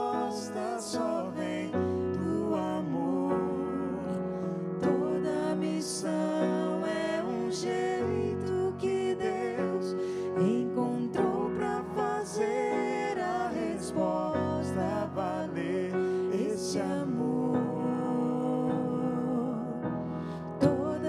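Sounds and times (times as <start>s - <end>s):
man singing: 0.0s - 19.9s, 20.6s - 21.0s.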